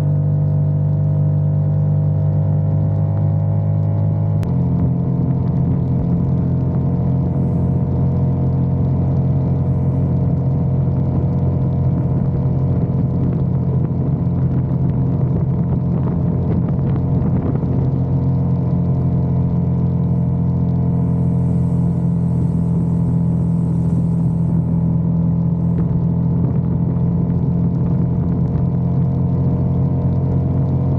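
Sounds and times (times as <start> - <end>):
motorcycle engine running steadily: 0.0 - 30.9.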